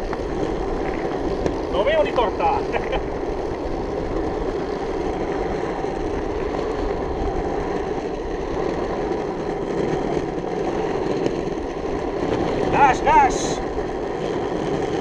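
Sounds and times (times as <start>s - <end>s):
caster wheels rolling over asphalt: 0.0s - 15.0s.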